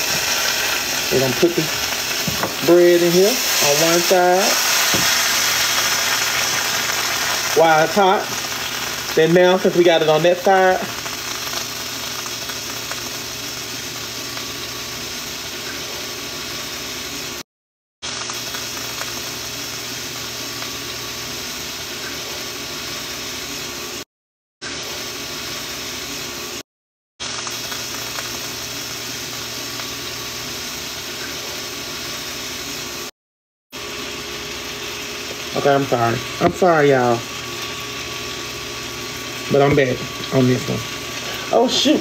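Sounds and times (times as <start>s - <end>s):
bread sizzling in a pan: 0.0s - 17.4s, 18.0s - 26.6s, 27.2s - 33.1s, 33.8s - 42.0s.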